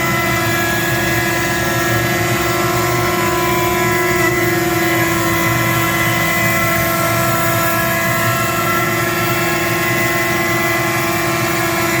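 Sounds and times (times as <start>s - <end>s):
router spindle whine: 0.0s - 12.0s.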